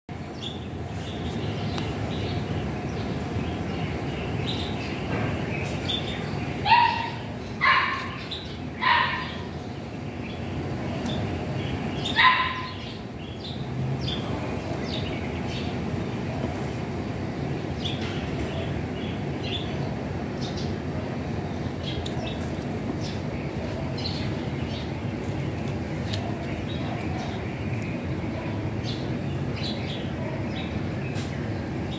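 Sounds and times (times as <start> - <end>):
steady background hum: 0.1 - 31.9.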